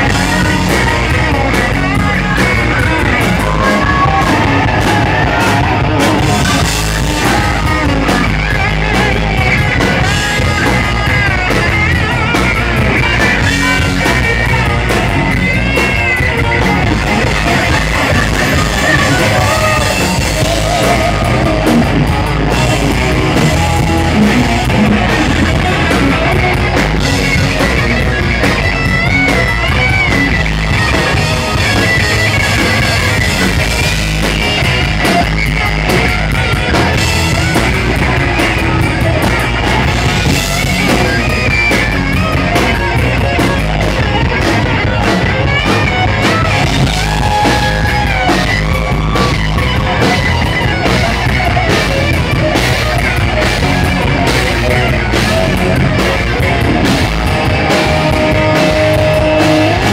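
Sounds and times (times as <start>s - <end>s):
distorted electric guitar lead: 0.0s - 59.9s
live rock band playing: 0.0s - 59.9s.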